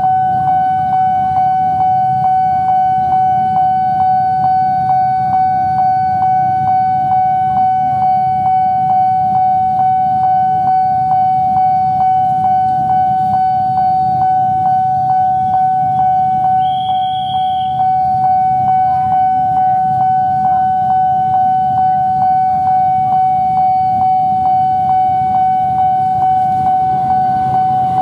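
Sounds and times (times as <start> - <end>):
level crossing warning bell: 0.0 - 28.0.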